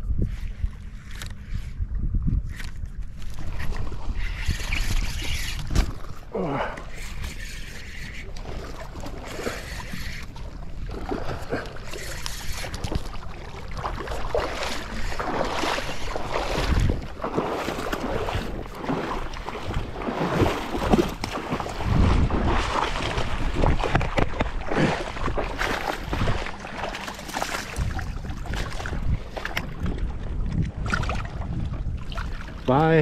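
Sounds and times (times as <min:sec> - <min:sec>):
wind noise on microphone: 0:00.0 - 0:11.6, 0:12.5 - 0:26.6, 0:27.5 - 0:33.0
fish thrashing in water: 0:03.2 - 0:32.6
splashing in shallow water: 0:03.2 - 0:33.0.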